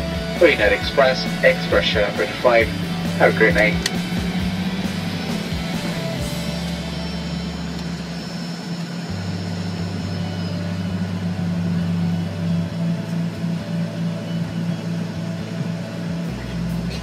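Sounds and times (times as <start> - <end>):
jet engines idling: 0.0 - 17.0
low rumble: 0.0 - 17.0.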